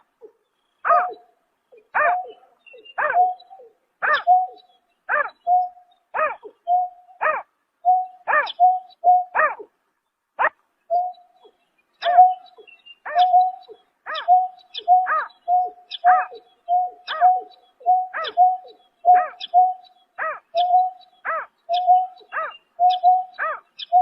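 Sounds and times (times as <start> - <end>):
bird hooting calls: 0.0 - 9.7, 10.9 - 24.0.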